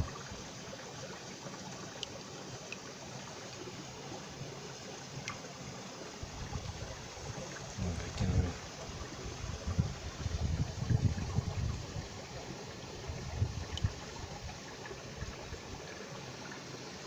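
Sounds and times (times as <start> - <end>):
stream water running over rocks: 0.0 - 17.0.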